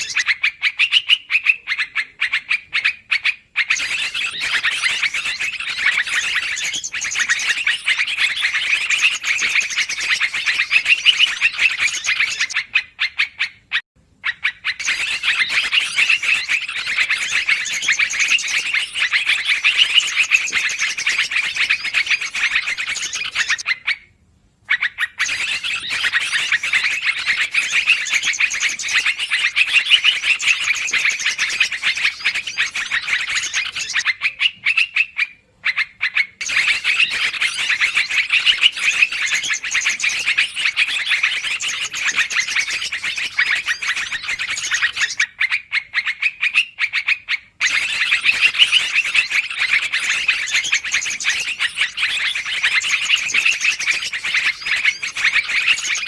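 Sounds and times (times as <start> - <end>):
rapid bird chattering: 0.0 - 24.1, 24.7 - 56.0.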